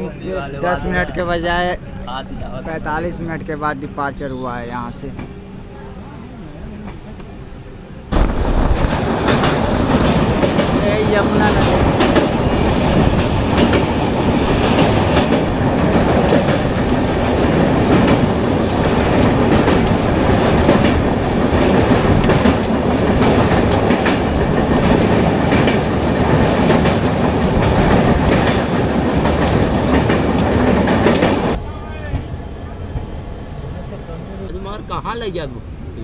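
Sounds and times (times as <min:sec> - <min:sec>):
train rumble with wheel clickety-clack: 0:00.0 - 0:36.0.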